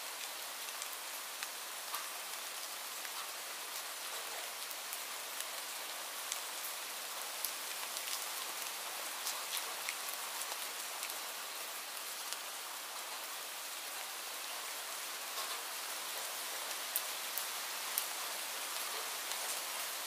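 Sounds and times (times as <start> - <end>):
rain falling on foliage: 0.0 - 20.0.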